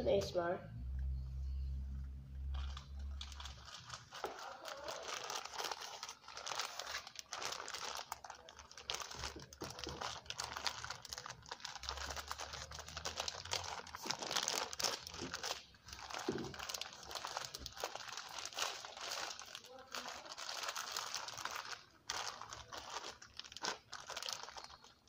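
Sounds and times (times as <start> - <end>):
plastic packet crinkling: 2.5 - 25.0.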